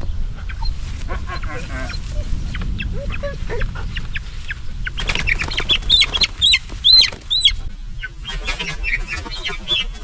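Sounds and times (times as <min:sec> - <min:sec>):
poultry clucking: 0:00.4 - 0:10.0.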